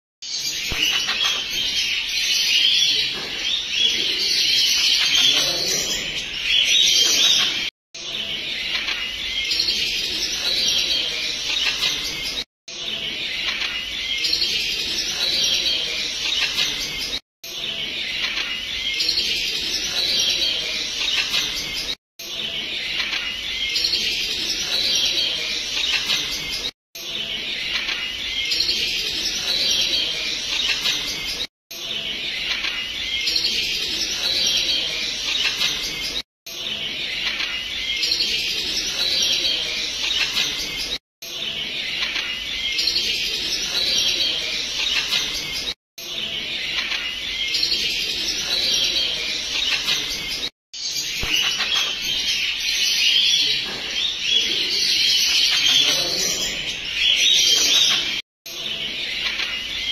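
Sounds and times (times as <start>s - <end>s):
birds chirping: 0.2s - 59.9s.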